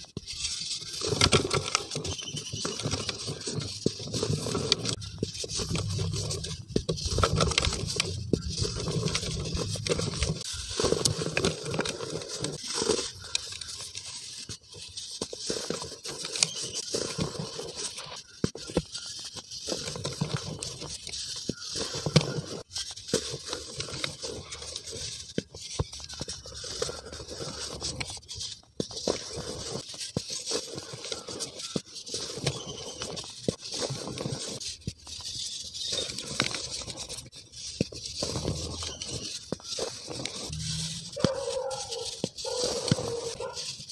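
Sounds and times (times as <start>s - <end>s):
hands rubbing powder in bowl: 0.0s - 43.9s.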